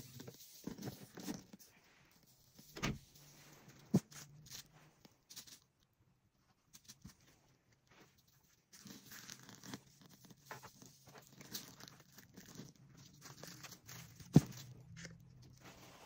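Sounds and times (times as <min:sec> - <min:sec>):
rustling and tearing: 0:00.0 - 0:16.0.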